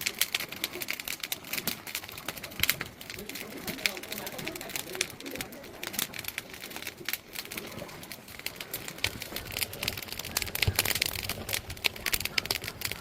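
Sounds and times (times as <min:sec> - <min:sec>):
firewood burning and crackling: 0:00.0 - 0:13.0.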